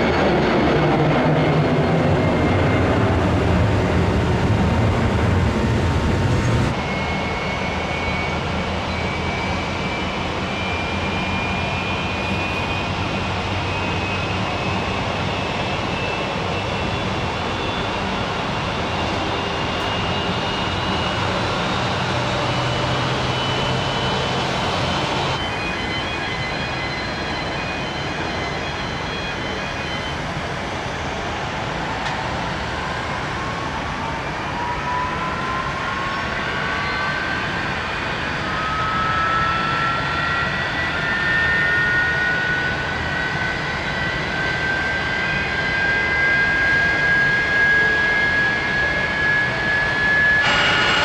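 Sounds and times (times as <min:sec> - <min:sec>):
jet engines rumbling and whining: 0:00.0 - 0:51.0.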